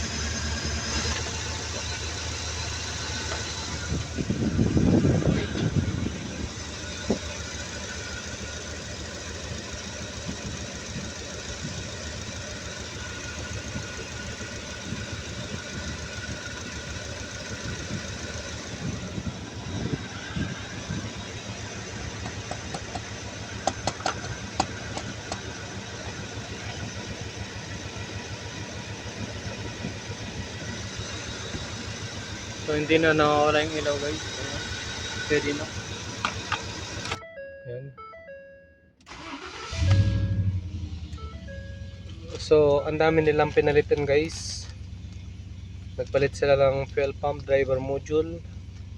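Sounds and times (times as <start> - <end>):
truck engine idling: 0.0 - 37.4, 39.1 - 48.9.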